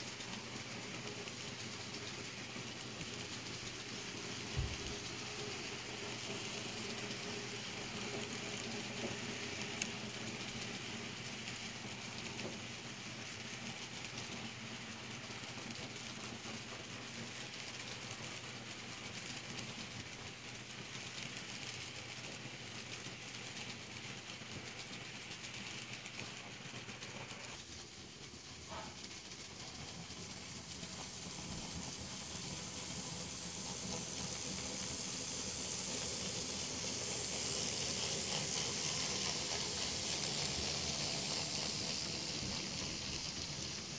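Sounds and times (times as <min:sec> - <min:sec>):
model trains whirring on track: 0:00.0 - 0:43.9.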